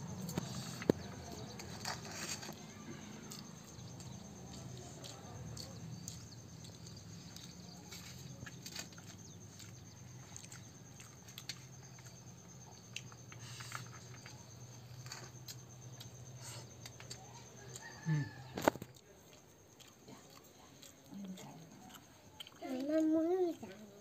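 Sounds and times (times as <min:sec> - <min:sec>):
chewing: 0:00.1 - 0:24.0.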